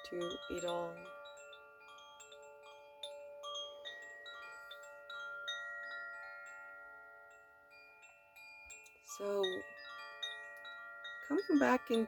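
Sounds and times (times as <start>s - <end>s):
wind chimes tinkling: 0.0s - 12.0s.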